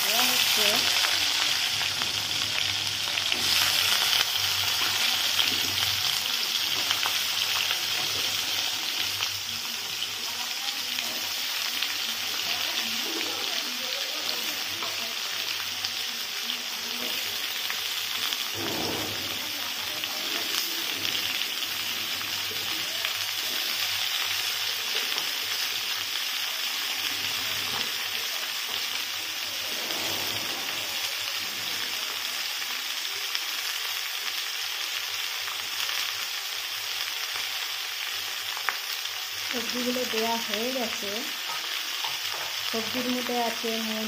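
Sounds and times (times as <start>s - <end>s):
vegetables sizzling in hot oil: 0.0s - 44.0s.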